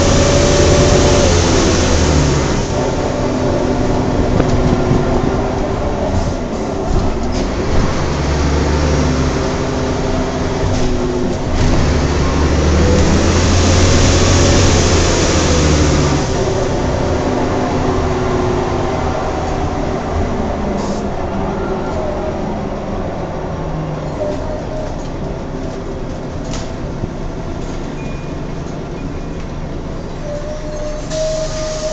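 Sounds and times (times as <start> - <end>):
bus engine and road rumble: 0.0 - 31.9.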